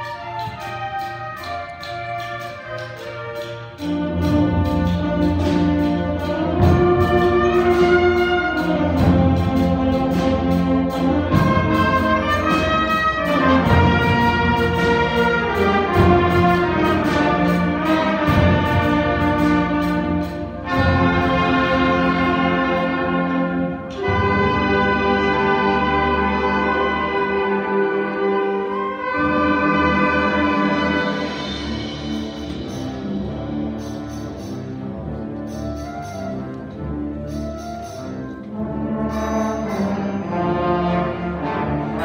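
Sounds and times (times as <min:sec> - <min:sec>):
concert band playing: 0:00.0 - 0:42.0.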